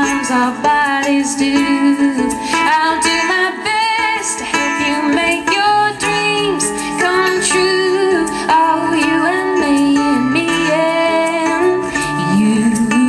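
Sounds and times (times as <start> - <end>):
plucked acoustic string instrument: 0.0 - 13.0
woman singing: 0.0 - 13.0.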